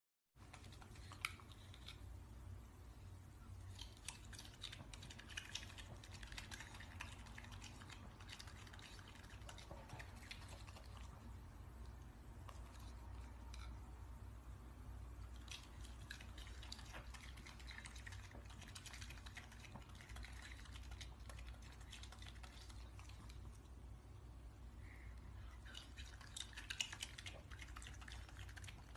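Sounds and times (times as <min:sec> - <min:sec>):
animal chewing wet fruit: 0:00.4 - 0:02.2, 0:03.5 - 0:13.9, 0:15.2 - 0:23.9, 0:25.4 - 0:28.9.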